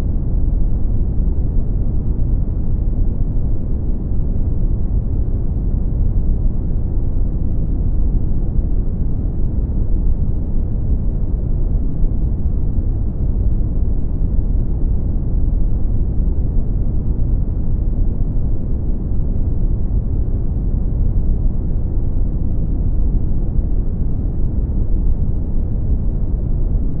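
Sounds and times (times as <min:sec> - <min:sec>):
deep rumbling brown noise: 0:00.0 - 0:27.0.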